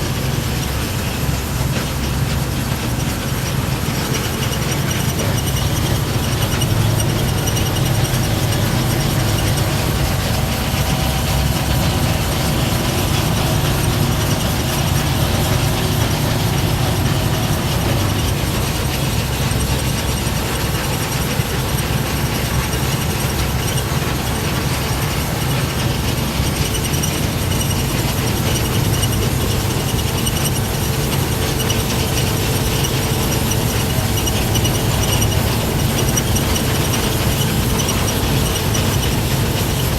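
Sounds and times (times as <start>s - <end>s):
harvest machinery running: 0.0s - 39.9s.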